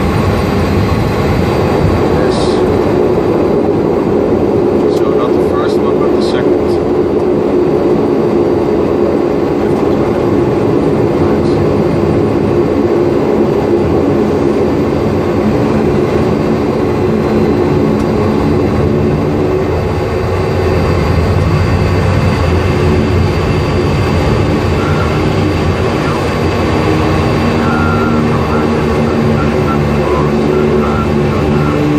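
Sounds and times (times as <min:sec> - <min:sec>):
turboprop engines droning: 0:00.0 - 0:31.9.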